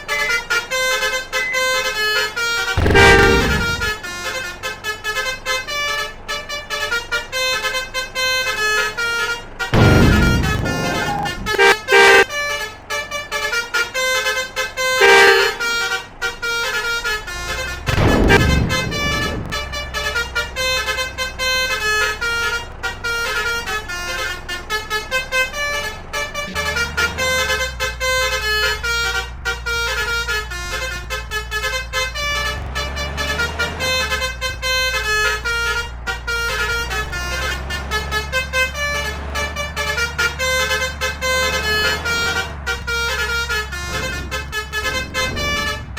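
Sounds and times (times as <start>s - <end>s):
multi-trumpet bus horn melody: 0.0s - 45.9s.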